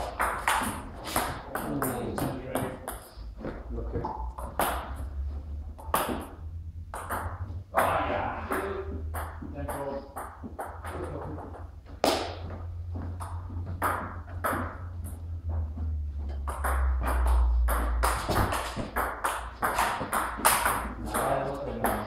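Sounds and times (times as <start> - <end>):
table tennis ball bouncing: 0.0 - 3.2, 4.0 - 22.0.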